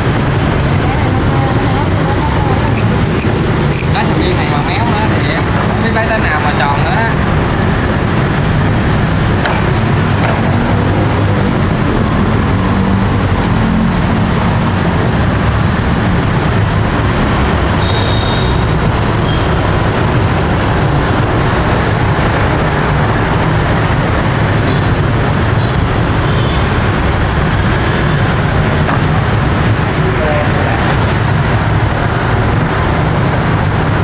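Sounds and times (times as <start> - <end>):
busy street traffic: 0.0 - 34.0.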